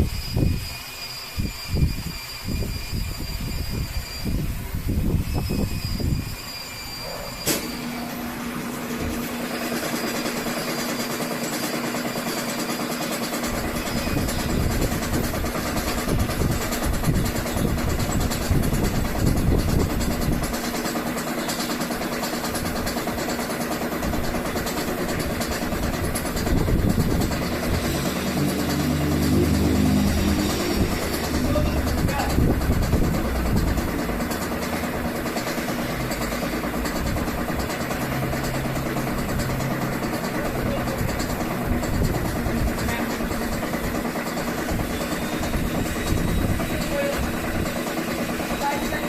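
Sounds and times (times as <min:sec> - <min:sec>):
fan motor hum: 0:00.0 - 0:49.0.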